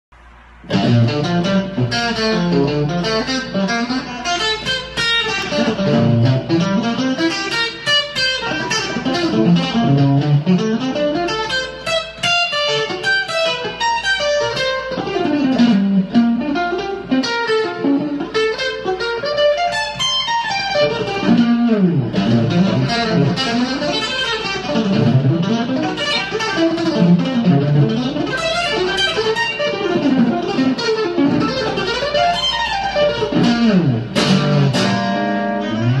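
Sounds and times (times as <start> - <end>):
electric guitar fast arpeggios: 0.7 - 36.0.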